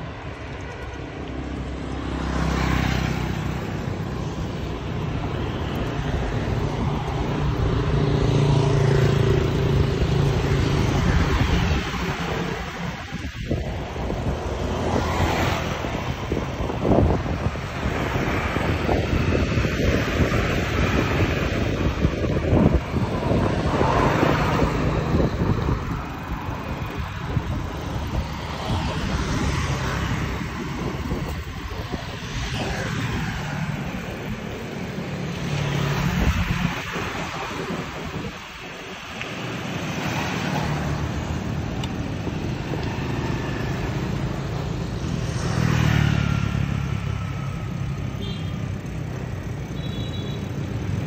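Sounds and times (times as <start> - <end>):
motorbike traffic passing: 0.0 - 51.0
wind on microphone: 3.2 - 45.9.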